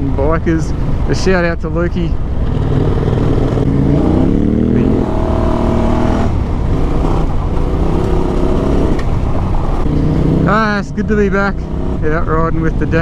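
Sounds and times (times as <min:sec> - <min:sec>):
motorcycle engine accelerating: 0:02.2 - 0:13.0.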